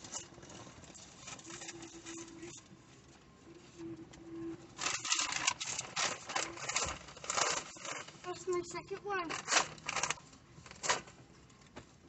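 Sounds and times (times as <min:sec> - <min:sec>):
paper bag rustling and crinkling: 0:00.0 - 0:03.2, 0:04.7 - 0:12.0.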